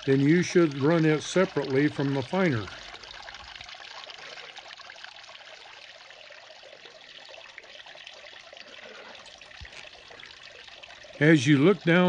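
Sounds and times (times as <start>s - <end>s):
water trickling through sluice: 0.0s - 12.0s.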